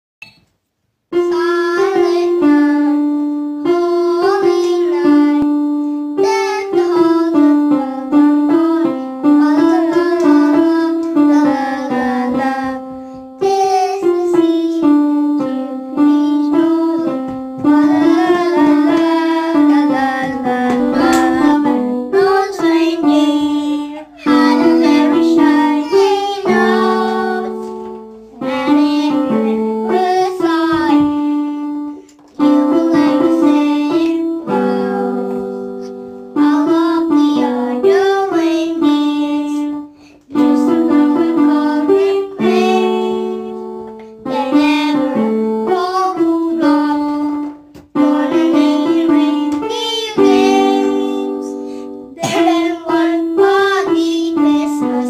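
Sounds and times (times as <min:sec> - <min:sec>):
electronic keyboard melody: 0:01.1 - 0:55.0
child singing: 0:01.2 - 0:55.0.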